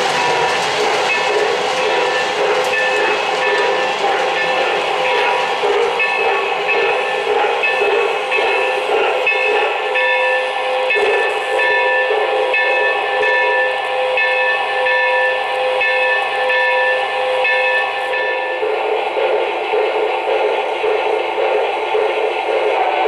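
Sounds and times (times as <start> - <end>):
electronic steam train sounds: 0.0 - 23.0
model train running: 0.0 - 23.0.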